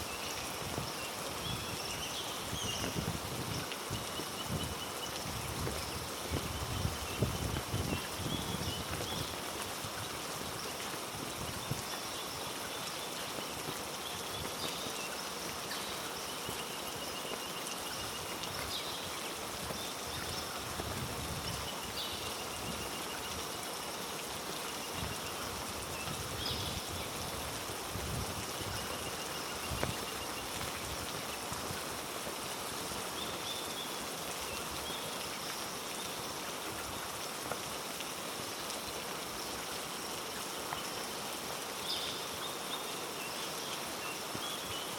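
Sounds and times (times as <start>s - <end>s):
heavy rain on foliage: 0.0s - 44.9s.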